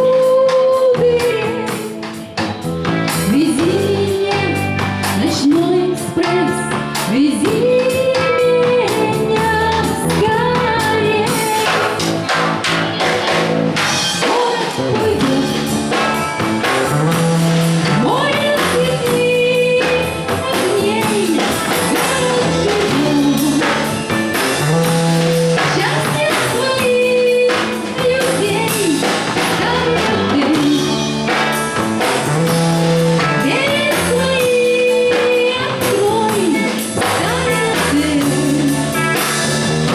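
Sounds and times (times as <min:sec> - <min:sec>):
person singing: 0:00.0 - 0:02.4, 0:03.2 - 0:12.2, 0:12.9 - 0:39.9
live band playing: 0:00.0 - 0:39.9
steady drum beat: 0:00.0 - 0:39.9.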